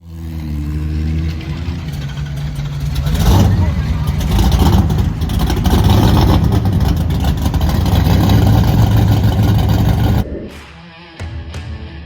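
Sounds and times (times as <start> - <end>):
drag racing car engine running: 0.0 - 10.3.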